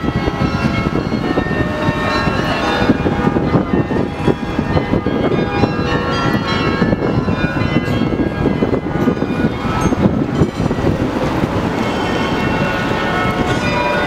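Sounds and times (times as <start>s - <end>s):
bells ringing: 0.0s - 14.0s
din of busy city square: 0.0s - 14.0s
tram passing: 0.0s - 14.0s.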